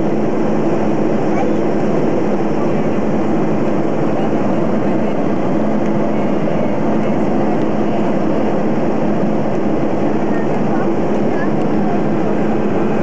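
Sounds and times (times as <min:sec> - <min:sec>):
airliner cabin engine noise: 0:00.0 - 0:13.0.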